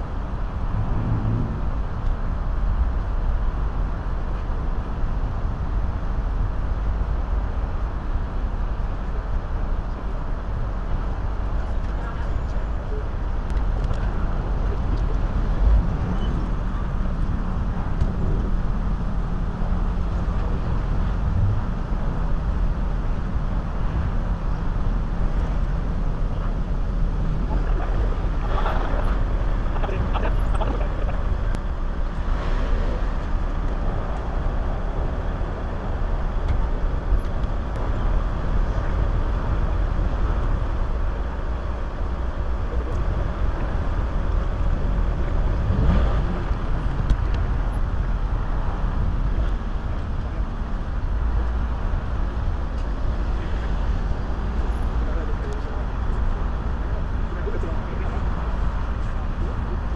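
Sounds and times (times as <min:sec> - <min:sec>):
road traffic rumble: 0:00.0 - 0:59.9
vehicles passing: 0:00.0 - 0:59.9.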